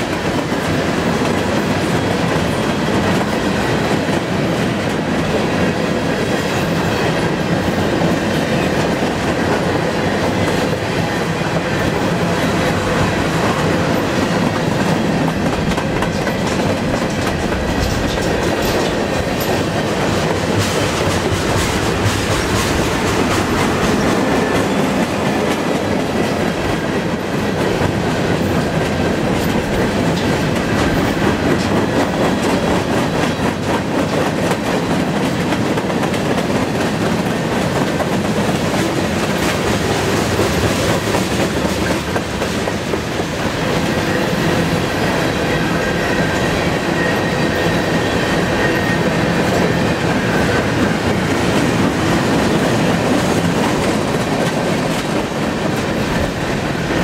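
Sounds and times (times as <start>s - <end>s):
freight train wheels rumbling: 0.0s - 57.0s
rapid rail clicks: 0.0s - 57.0s.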